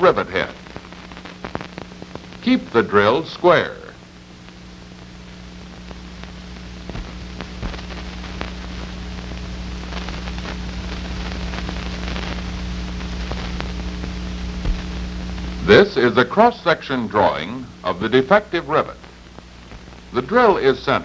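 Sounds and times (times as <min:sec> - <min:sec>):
crackles and pops: 0:00.0 - 0:21.0
mains hum: 0:00.0 - 0:21.0.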